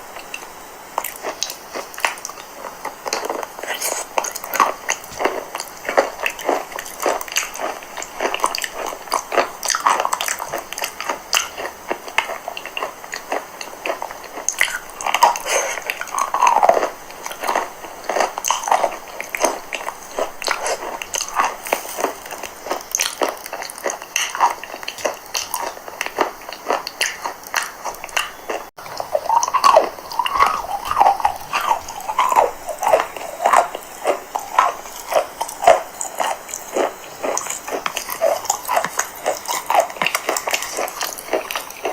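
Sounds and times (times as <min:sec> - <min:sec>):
chalk crunching while chewed: 0:00.2 - 0:41.9.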